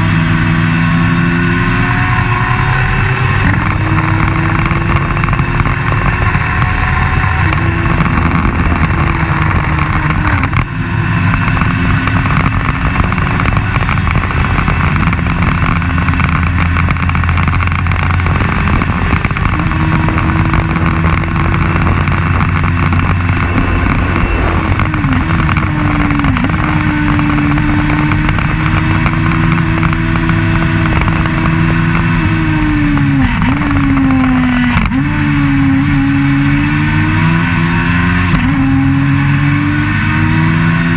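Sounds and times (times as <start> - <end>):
race car engine changing gear: 0.0 - 40.9.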